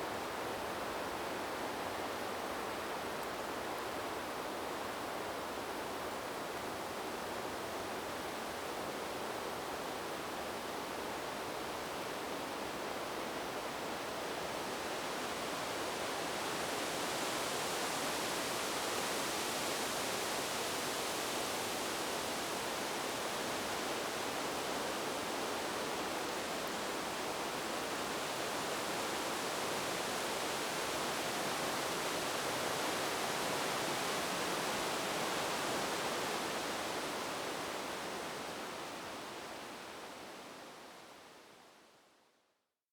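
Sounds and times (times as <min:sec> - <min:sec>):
wind rustling tree leaves: 0:00.0 - 0:41.7.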